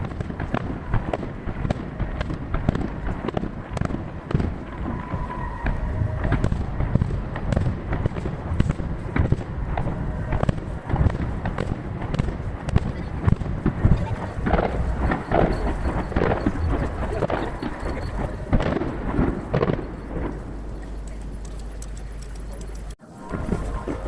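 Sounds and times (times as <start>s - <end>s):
distant booms with echoes: 0.0s - 20.8s
fireworks bursting: 0.0s - 21.4s
fireworks crackling: 0.0s - 24.0s.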